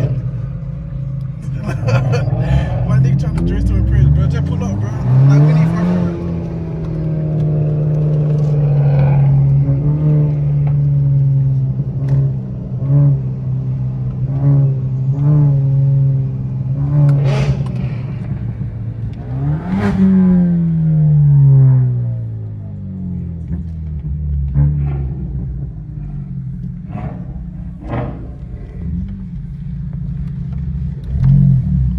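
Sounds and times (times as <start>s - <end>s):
car engine droning and revving: 0.0s - 31.9s.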